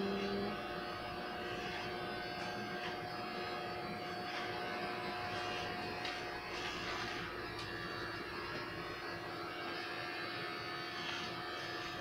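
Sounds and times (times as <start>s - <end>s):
pet hair clipper motor hum: 0.0s - 12.0s.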